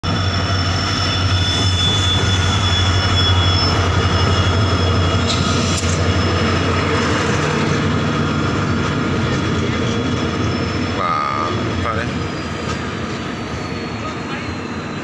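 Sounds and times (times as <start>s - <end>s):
diesel locomotive engine drone: 0.0s - 15.0s
wheels rumbling on rail: 0.0s - 15.0s.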